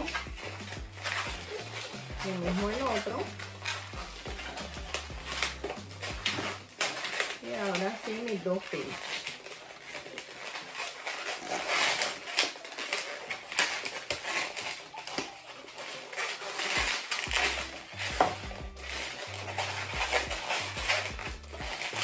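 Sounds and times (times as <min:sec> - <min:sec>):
latex balloon rubbing and squeaking: 0:00.0 - 0:22.0.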